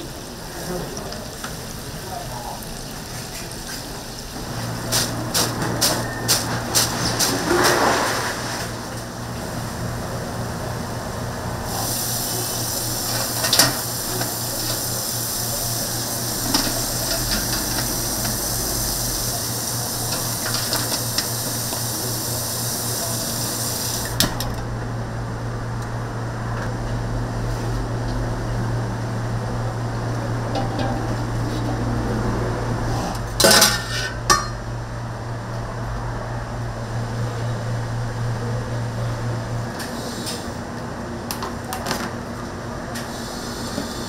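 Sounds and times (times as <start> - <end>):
deep fryer sizzling: 0.0 - 44.0.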